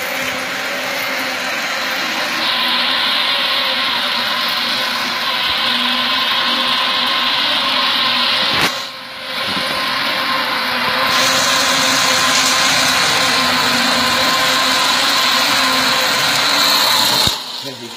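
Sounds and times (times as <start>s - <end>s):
treadmill motor whirring: 0.0s - 17.9s.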